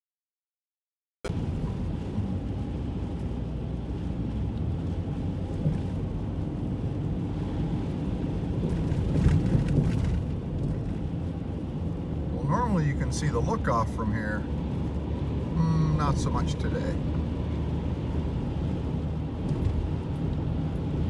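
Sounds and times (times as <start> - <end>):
tyre and wind noise in car cabin: 1.3 - 21.0.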